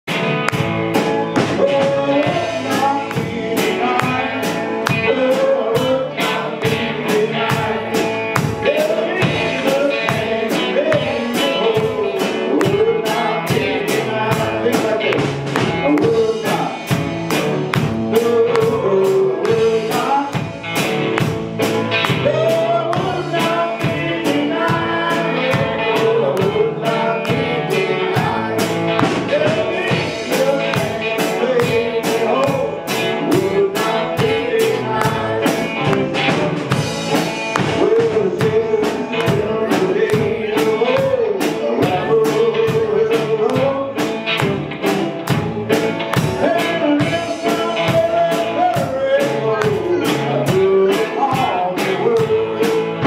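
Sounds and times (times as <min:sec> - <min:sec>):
strummed guitars: 0:00.0 - 0:53.0
steady beat: 0:00.1 - 0:53.0
man singing lead: 0:00.9 - 0:53.0.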